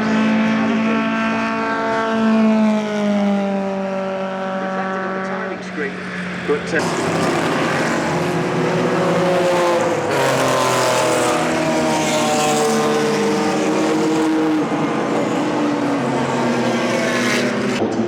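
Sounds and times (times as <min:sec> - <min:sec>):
racing car engines passing: 0:00.0 - 0:18.0.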